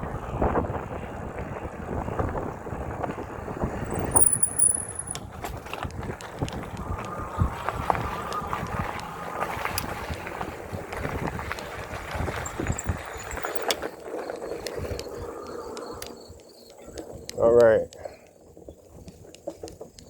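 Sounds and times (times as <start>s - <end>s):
road noise on wet streets: 0.0s - 20.0s
wind buffeting microphone: 0.0s - 20.0s.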